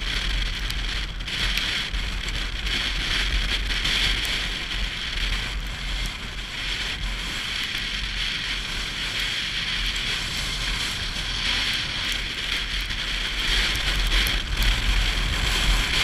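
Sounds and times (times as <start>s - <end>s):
motorcycle low rumble: 0.0s - 16.0s
wind rushing over microphone: 0.0s - 16.0s.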